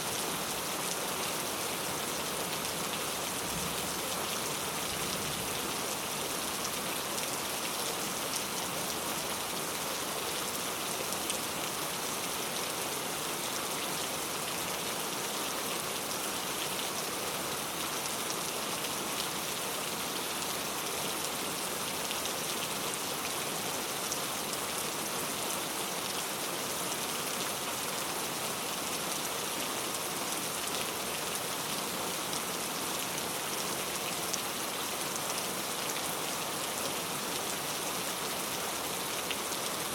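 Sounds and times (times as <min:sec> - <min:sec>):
very heavy rain: 0:00.0 - 0:39.9.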